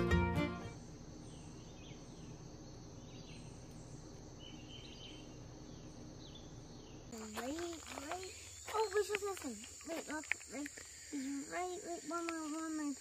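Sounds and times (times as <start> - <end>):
insects droning: 0.5 - 13.0
birds chirping: 0.7 - 13.0.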